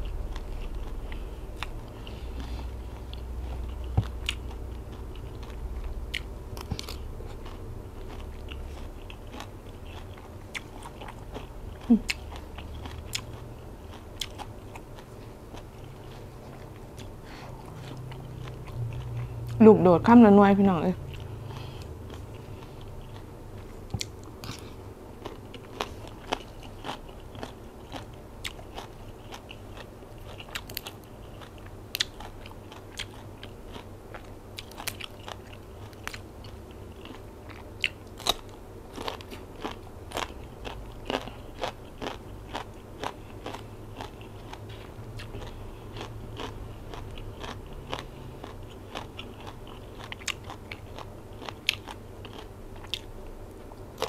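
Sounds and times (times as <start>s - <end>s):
close-up crunchy chewing: 0.0s - 19.6s, 21.1s - 53.2s.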